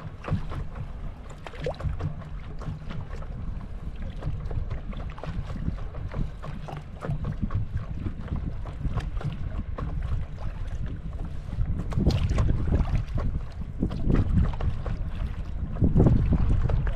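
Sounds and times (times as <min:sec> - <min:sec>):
water slapping paddle board: 0:00.0 - 0:16.9
wind rumbling on microphone: 0:00.0 - 0:16.9.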